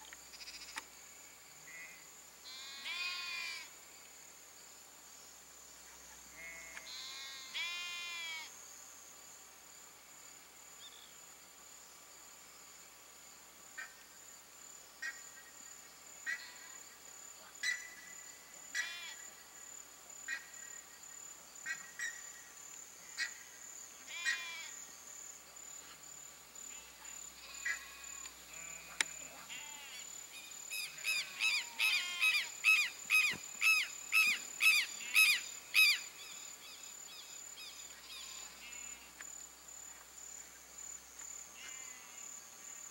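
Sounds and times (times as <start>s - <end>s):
high insect buzz: 0.0s - 5.3s, 6.3s - 11.2s, 18.0s - 42.9s.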